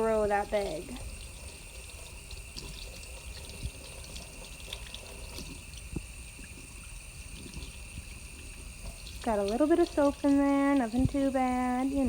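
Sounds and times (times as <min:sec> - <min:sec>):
tap water running into sink: 0:00.0 - 0:12.0
sponge rinsing wet clicks: 0:00.5 - 0:11.4.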